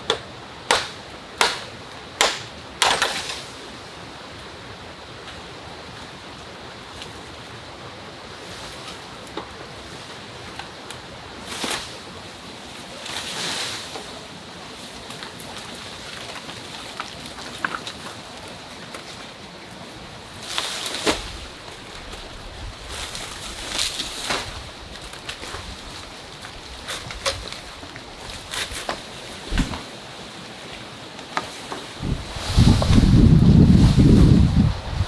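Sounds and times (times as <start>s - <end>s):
steady forest hiss: 0.0s - 35.0s
footsteps rustling dry leaves: 6.8s - 35.0s.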